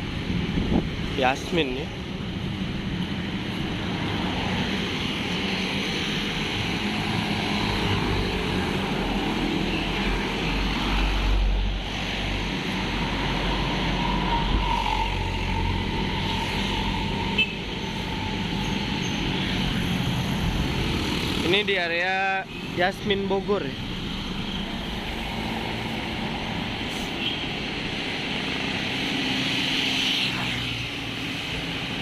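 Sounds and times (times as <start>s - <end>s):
passing traffic rumble: 0.0s - 32.0s.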